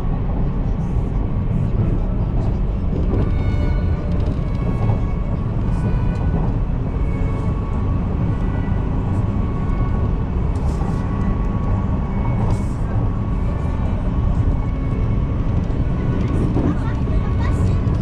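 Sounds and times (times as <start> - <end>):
electric train rumble inside cabin: 0.0 - 18.0.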